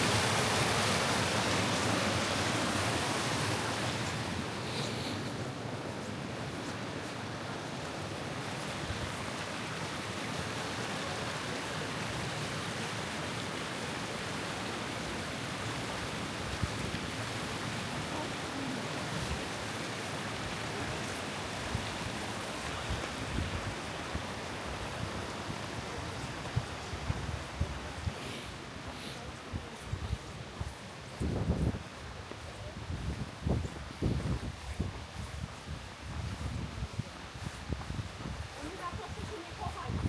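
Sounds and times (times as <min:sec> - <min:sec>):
stream water rushing: 0:00.0 - 0:33.6.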